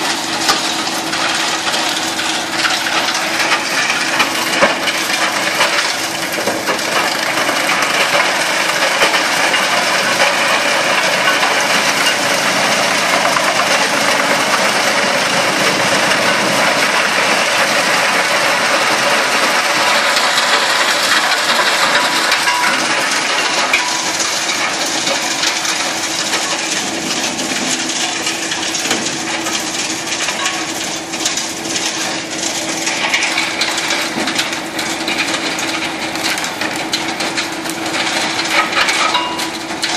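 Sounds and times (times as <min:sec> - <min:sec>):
machine hum: 0:00.0 - 0:39.9
wood chipper crunching branches: 0:00.0 - 0:39.9.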